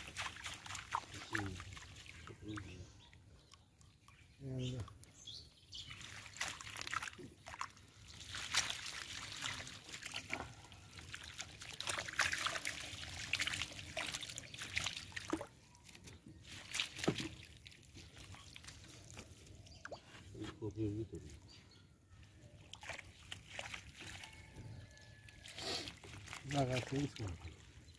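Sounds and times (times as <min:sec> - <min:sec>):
water dripping and splashing: 0:00.0 - 0:20.1, 0:22.6 - 0:27.9.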